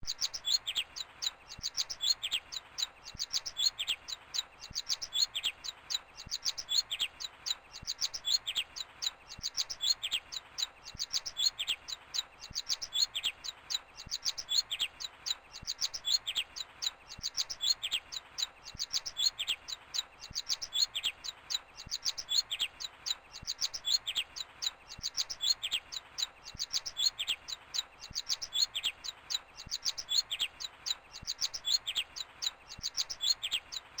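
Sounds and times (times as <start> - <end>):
nestling birds begging chirps: 0.0 - 34.0.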